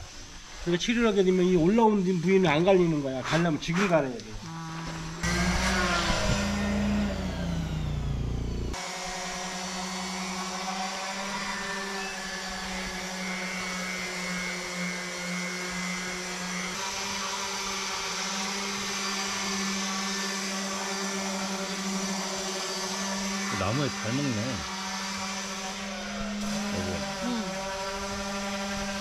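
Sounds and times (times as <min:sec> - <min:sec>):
power tool motor humming: 0:04.0 - 0:29.0.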